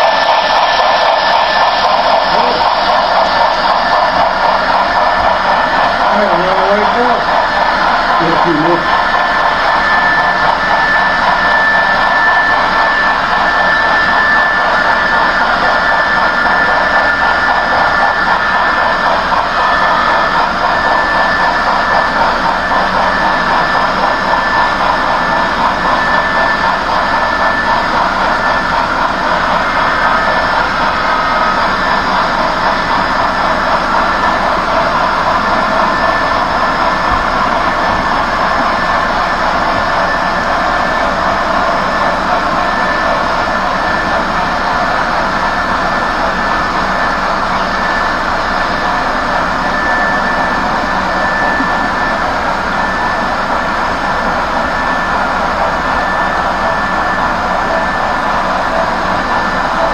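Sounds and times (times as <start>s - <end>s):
thin high whine: 0.0s - 59.9s.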